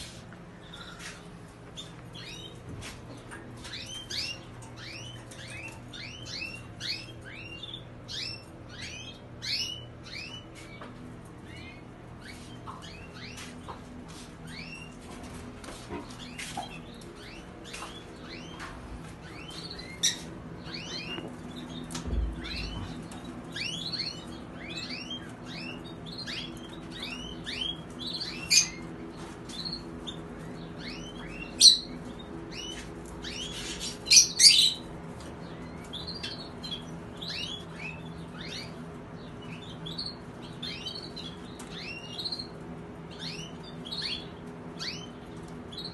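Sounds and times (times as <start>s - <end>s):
canaries chirping: 0.6s - 45.9s.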